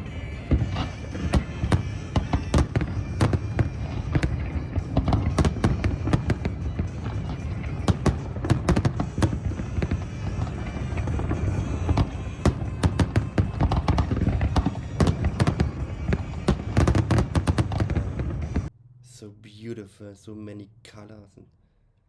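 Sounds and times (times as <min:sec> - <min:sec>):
fireworks bangs and crackles: 0:00.0 - 0:18.7
music playing: 0:00.0 - 0:20.1.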